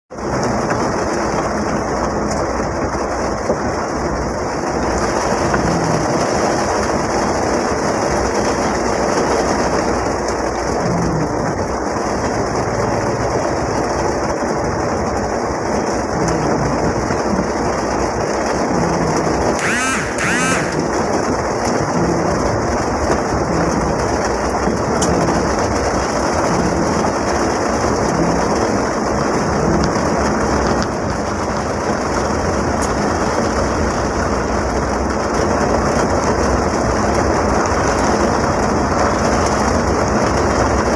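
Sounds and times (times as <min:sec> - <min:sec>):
heavy rain on van roof: 0:00.1 - 0:19.6, 0:20.2 - 0:40.9
engine and road noise: 0:00.1 - 0:40.9.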